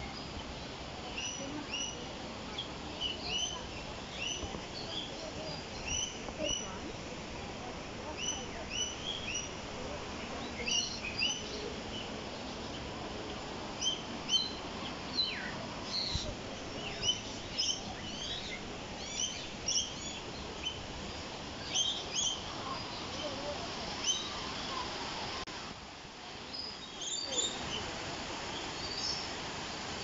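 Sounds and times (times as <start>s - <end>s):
small birds chirping: 0.0s - 7.1s, 8.0s - 25.4s, 26.5s - 29.4s
steady background hiss: 0.0s - 30.0s.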